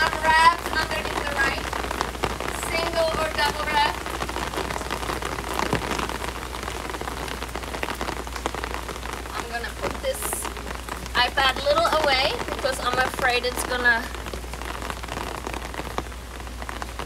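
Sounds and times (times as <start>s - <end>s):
rain falling steadily: 0.0s - 17.0s
raindrops ticking close: 0.0s - 17.0s.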